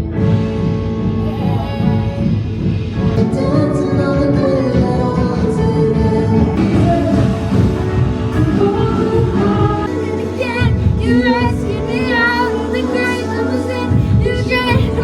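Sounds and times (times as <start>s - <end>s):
several voices singing: 1.2s - 15.0s.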